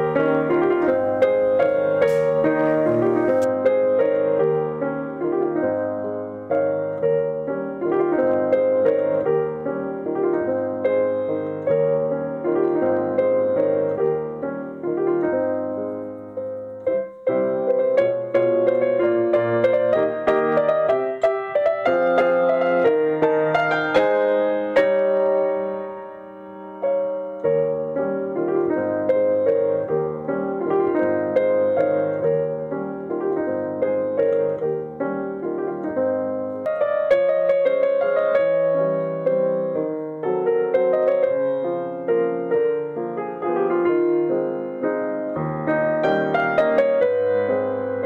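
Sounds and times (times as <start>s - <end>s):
solo piano playing: 0.0s - 48.0s.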